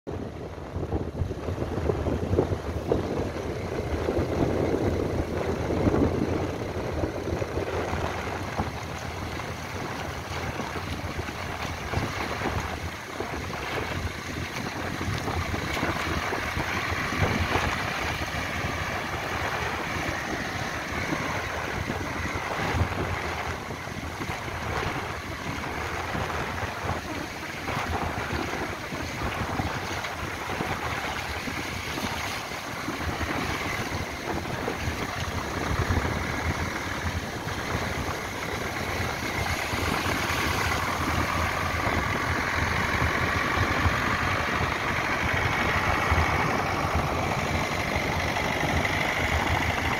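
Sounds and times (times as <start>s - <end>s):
tractor engine running: 0.1s - 49.9s
wind buffeting microphone: 0.1s - 49.9s
waves washing in: 1.2s - 49.9s.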